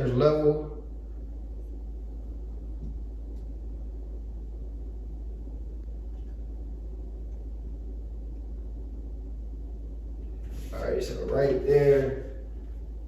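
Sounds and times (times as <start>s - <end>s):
low room noise rumble: 0.0s - 13.0s.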